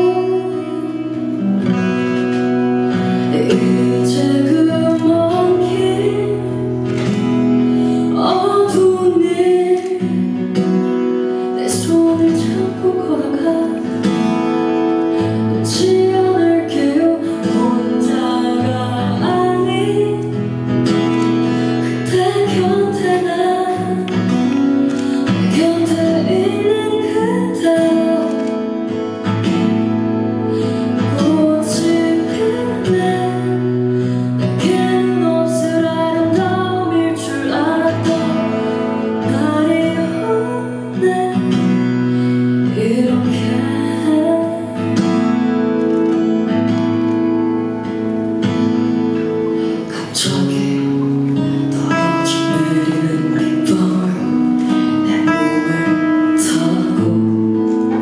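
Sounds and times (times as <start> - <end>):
woman singing: 0.0 - 45.8, 49.3 - 58.0
acoustic guitar: 0.0 - 58.0.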